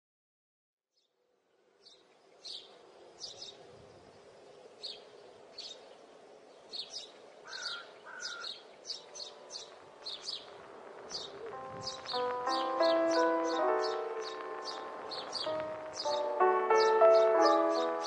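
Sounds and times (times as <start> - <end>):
faint outdoor background: 0.8 - 18.0
small birds chirping: 1.8 - 18.0.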